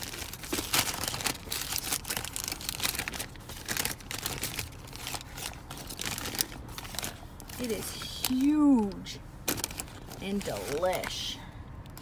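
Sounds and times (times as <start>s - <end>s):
paper wrapping crinkling: 0.0s - 11.1s.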